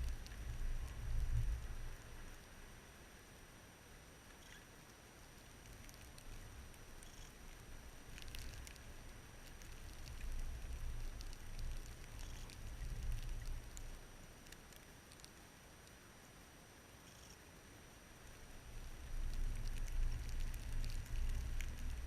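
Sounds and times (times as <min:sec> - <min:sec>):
faint ticks: 0:00.0 - 0:02.6, 0:04.2 - 0:17.5, 0:18.2 - 0:22.0.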